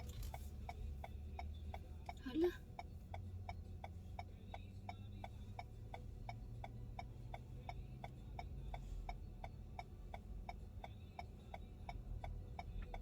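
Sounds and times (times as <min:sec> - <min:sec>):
car engine hum: 0:00.0 - 0:13.0
turn signal clicking: 0:00.0 - 0:13.0.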